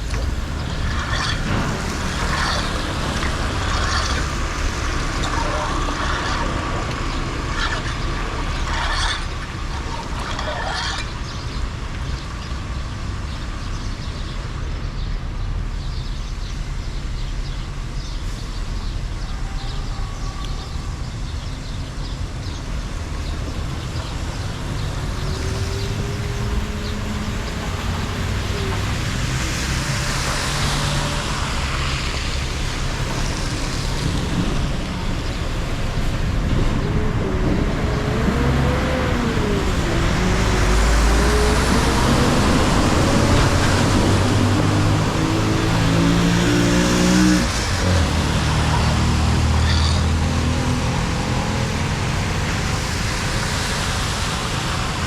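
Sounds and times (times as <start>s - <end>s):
water rushing into drain: 0.0s - 12.2s, 23.1s - 55.0s.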